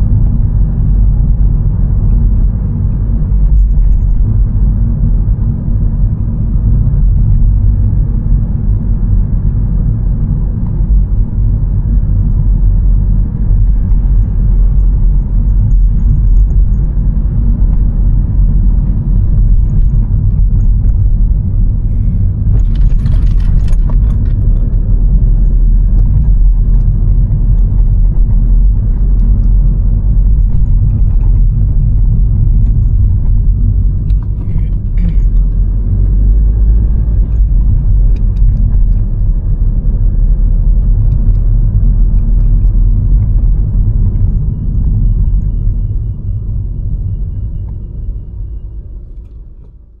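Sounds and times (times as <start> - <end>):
car cabin rumble: 0.0 - 50.0.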